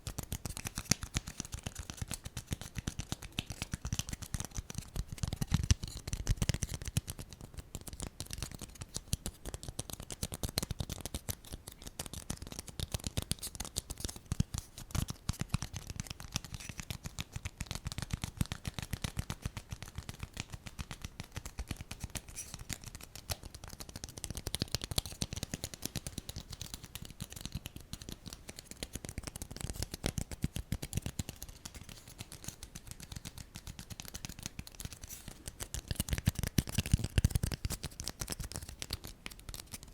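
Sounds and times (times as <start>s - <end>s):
small clicks and taps: 0.0s - 39.9s.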